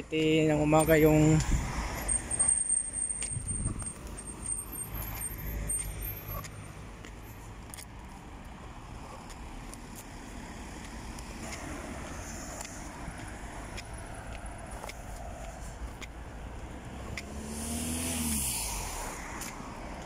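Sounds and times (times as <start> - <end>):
faint traffic noise: 0.0 - 20.0
cars driving past: 0.6 - 20.0.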